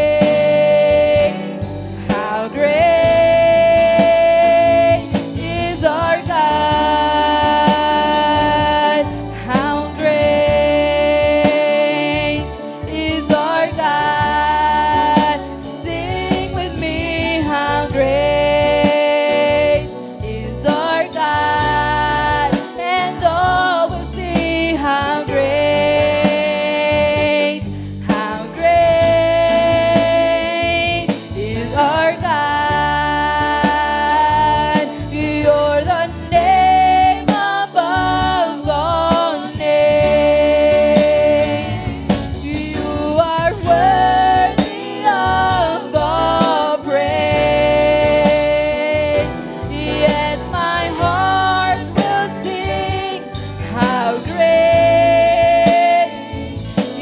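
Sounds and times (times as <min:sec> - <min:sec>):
church band playing: 0:00.0 - 0:57.0.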